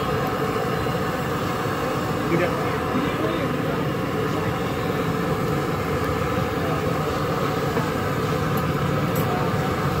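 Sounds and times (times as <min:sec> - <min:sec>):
street traffic roar: 0:00.0 - 0:10.0.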